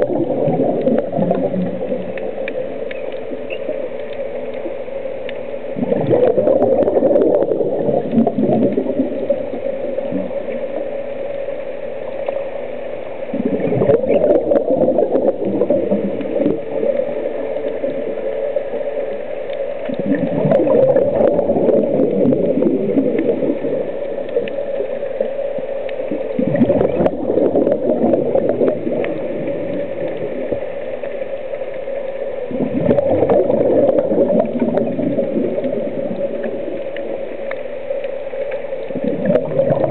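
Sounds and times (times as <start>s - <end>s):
regulator bubbles gurgling underwater: 0.0s - 39.9s
steady low hum: 0.0s - 39.9s.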